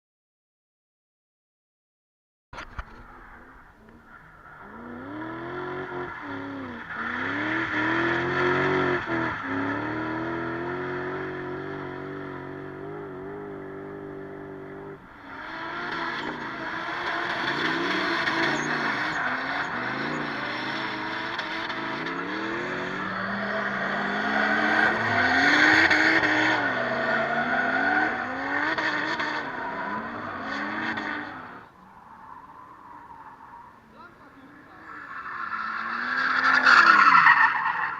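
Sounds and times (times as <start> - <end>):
car engines revving hard: 3.4 - 37.9.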